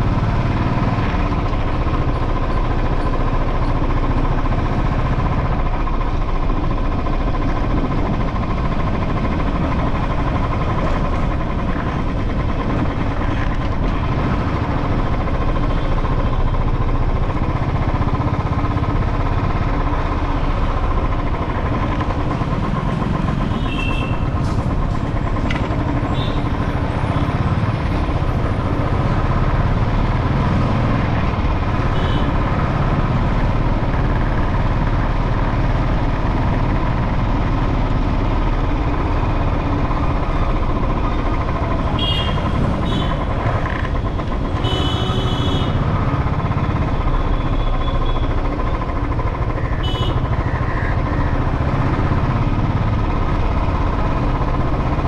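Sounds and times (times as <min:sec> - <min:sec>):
motorcycle engine and road noise: 0:00.0 - 0:55.0.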